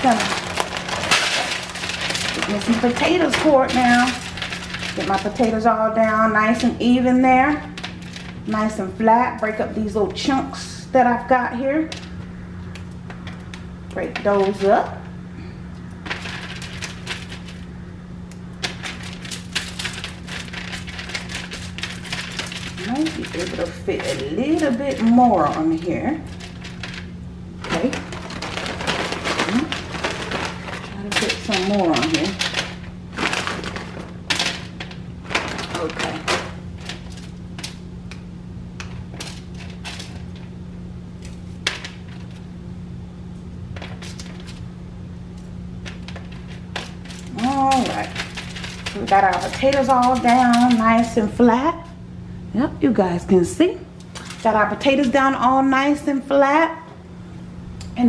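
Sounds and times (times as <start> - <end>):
aluminium foil crinkling: 0.0 - 42.6, 43.3 - 52.0, 53.9 - 55.4
steady low hum: 0.0 - 58.0.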